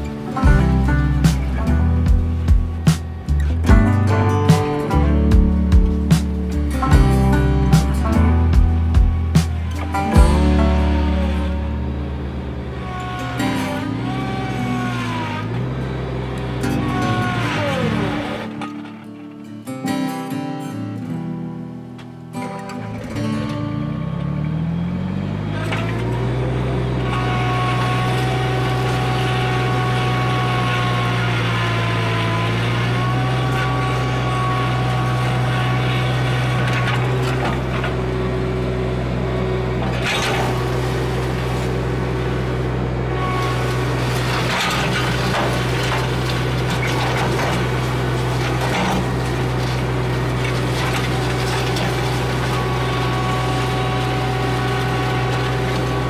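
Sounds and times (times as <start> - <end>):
tractor engine running under load: 0.0 - 19.6, 22.8 - 56.0.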